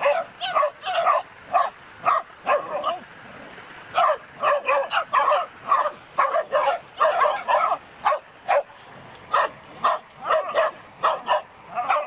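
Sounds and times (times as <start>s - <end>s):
dogs barking: 0.0s - 3.1s, 3.9s - 12.0s.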